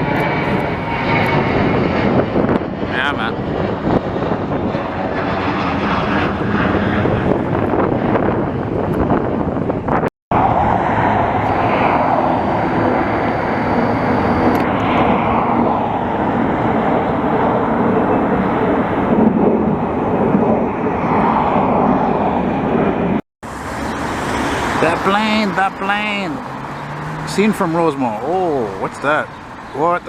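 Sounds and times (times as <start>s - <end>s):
jet plane flying over: 0.0s - 30.0s.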